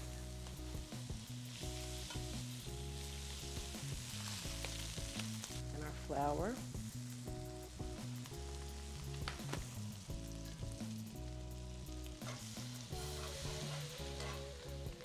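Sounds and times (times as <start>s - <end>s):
background music: 0.0s - 15.0s
butter and flour sizzling: 0.0s - 15.0s.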